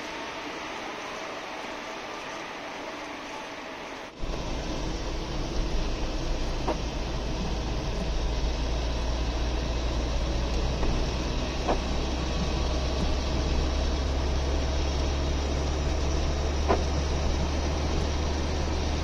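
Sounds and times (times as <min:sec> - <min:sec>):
engine and tyre drone: 0:00.0 - 0:19.0.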